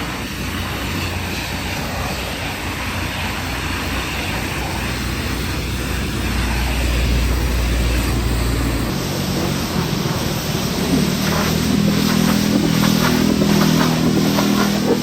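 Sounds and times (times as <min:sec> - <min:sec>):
pressure washer motor drone: 0:00.0 - 0:15.0
water spray hissing: 0:00.0 - 0:15.0.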